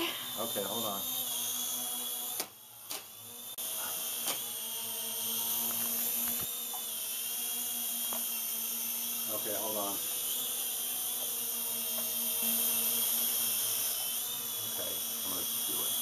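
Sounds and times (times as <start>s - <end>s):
toy helicopter motors whining: 0.0s - 16.0s.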